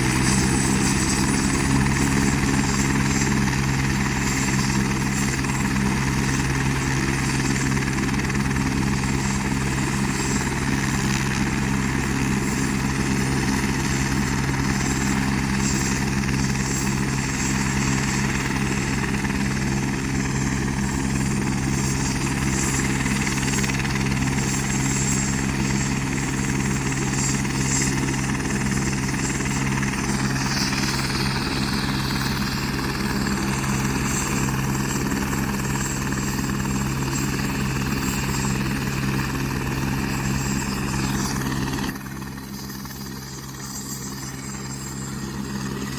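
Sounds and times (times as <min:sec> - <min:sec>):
helicopter engine drone: 0:00.0 - 0:45.9.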